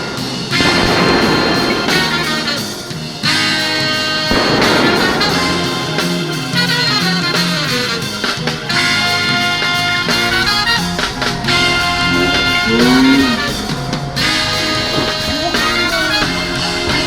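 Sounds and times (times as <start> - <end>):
funk-jazz music with horns: 0.0 - 17.0.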